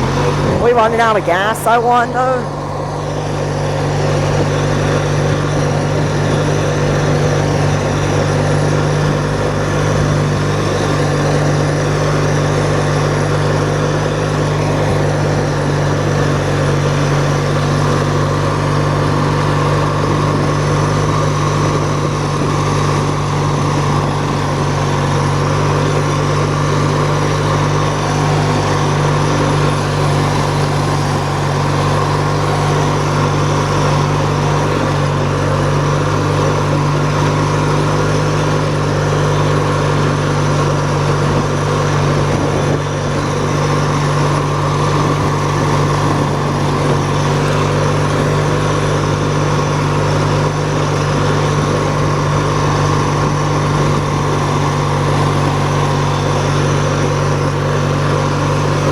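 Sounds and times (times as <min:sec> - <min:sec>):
lawn tractor engine humming: 0:00.0 - 0:58.9.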